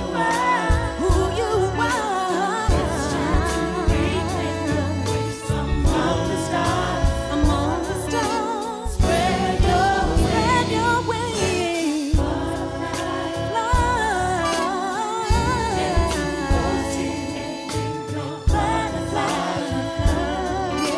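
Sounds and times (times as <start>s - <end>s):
bass guitar: 0.0s - 20.9s
drums: 0.0s - 20.9s
gospel choir singing: 0.0s - 20.9s.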